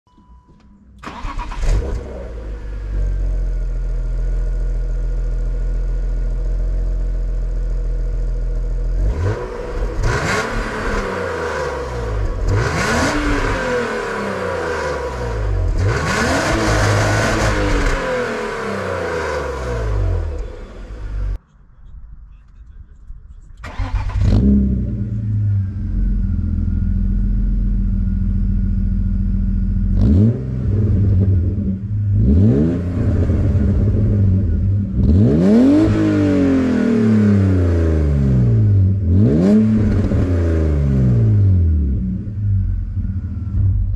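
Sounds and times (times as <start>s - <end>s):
car engine starting idling and revving: 1.0s - 21.4s, 23.6s - 43.9s.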